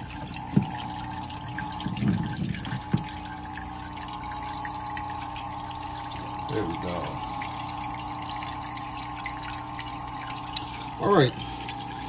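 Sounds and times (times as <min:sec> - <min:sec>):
filter motor hum: 0:00.0 - 0:12.0
water trickling into tank: 0:00.0 - 0:12.0.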